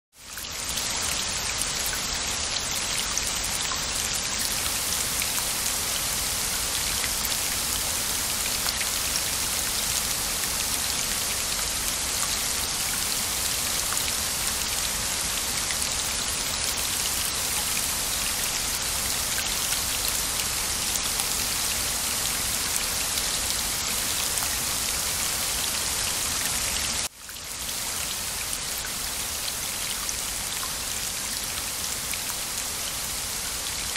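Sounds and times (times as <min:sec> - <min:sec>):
rain patter: 0:00.1 - 0:33.9.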